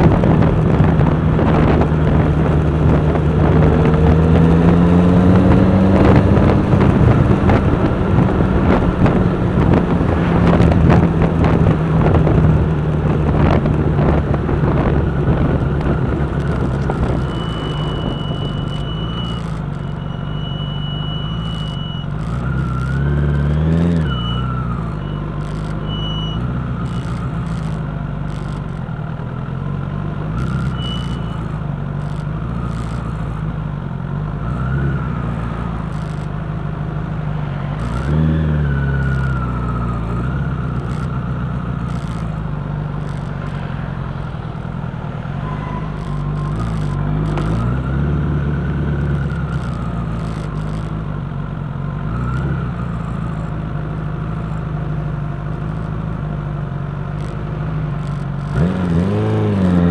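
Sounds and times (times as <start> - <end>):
vehicle engine at low speed: 0.0 - 59.9.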